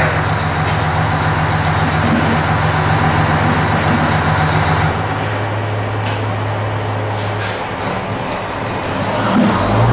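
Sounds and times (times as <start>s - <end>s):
truck engine idling: 0.0s - 9.2s.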